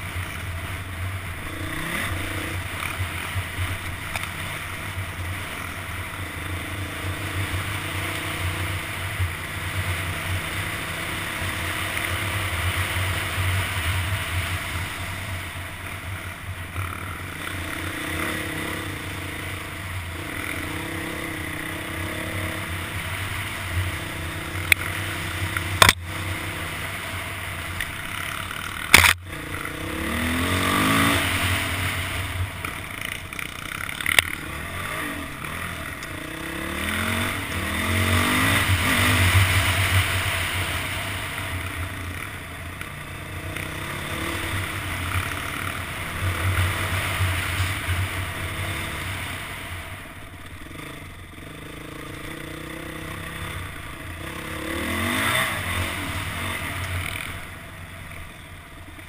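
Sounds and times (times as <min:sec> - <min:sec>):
dirt bike engine revving: 0:00.0 - 0:58.4.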